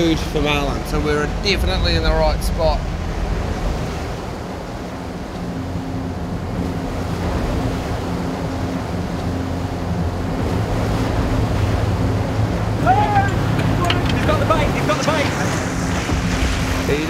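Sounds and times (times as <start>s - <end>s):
boat engine hum: 0.0s - 17.0s
churning wake rushing: 0.0s - 17.0s
wind buffeting microphone: 0.0s - 17.0s.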